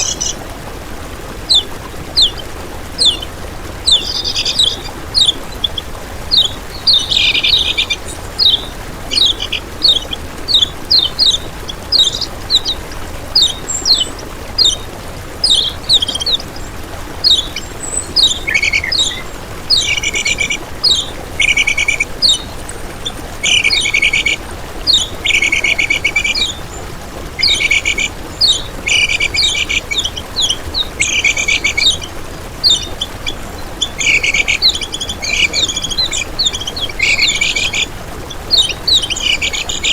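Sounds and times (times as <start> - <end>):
songbird singing sharp chirps: 1.5 - 39.9.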